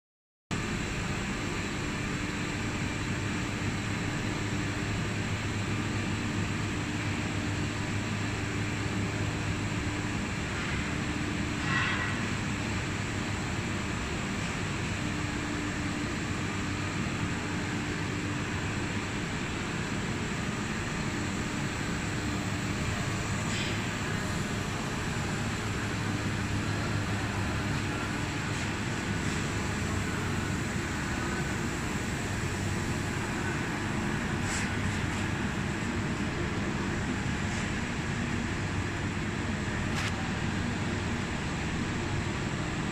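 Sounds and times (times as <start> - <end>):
machinery and fans whirring: 0.5 - 42.9.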